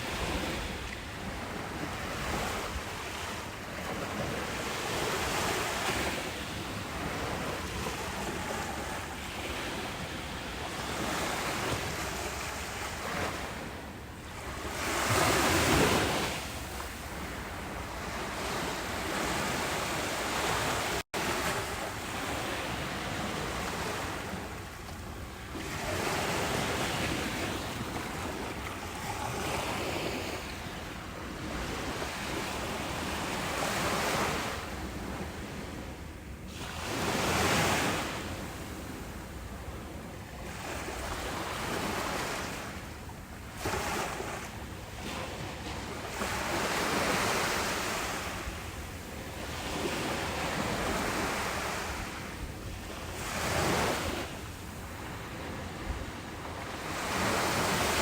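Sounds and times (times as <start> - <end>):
ocean surf breaking on beach: 0.0 - 42.9, 43.5 - 58.0.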